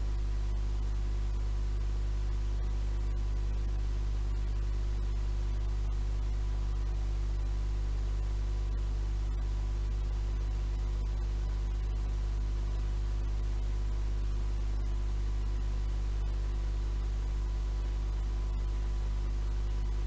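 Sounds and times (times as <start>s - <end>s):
mains hum: 0.0s - 20.0s.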